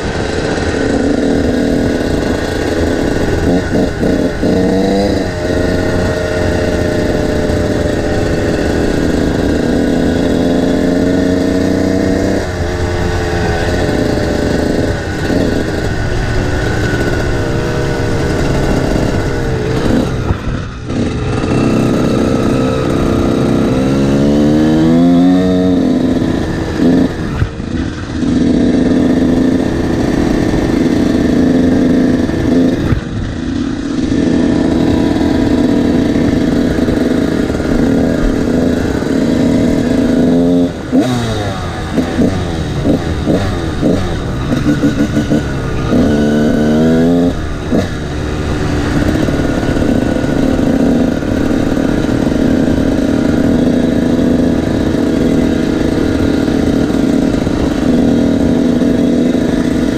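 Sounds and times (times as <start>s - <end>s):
two-stroke dirt bike engine: 0.0s - 59.9s.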